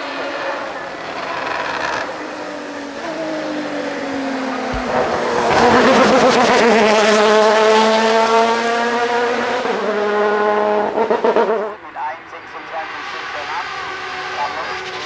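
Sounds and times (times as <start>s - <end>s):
race car driving past at high revs: 0.0s - 15.0s.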